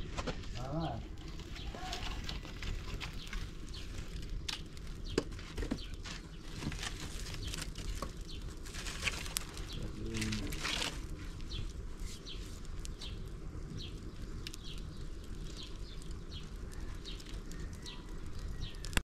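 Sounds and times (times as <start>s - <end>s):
firewood clattering: 0.0s - 19.0s
small bird chirping: 0.6s - 19.0s.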